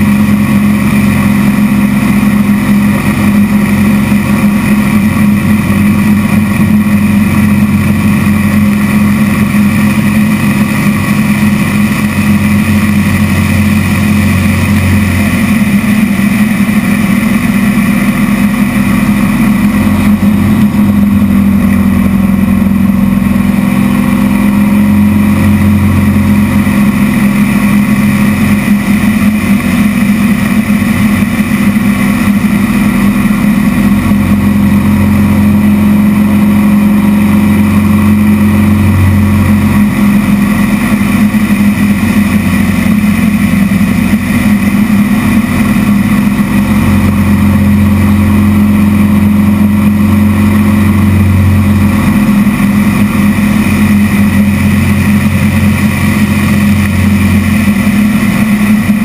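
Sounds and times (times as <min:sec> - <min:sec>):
light aircraft engine drone: 0:00.0 - 0:59.0.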